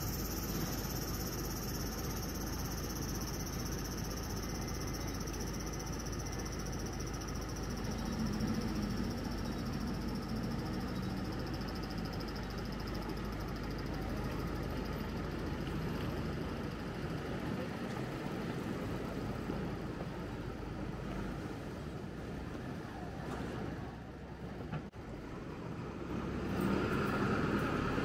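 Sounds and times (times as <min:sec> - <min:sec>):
city street noise: 0:00.0 - 0:28.0
vehicle engine running: 0:00.0 - 0:28.0.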